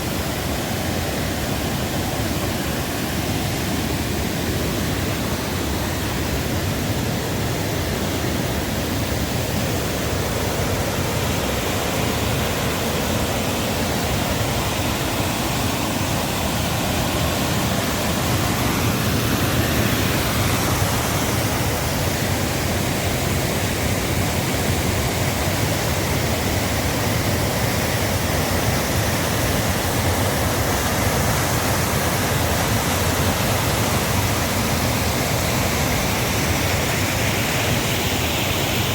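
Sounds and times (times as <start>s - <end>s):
river and waterfalls rushing: 0.0s - 38.9s.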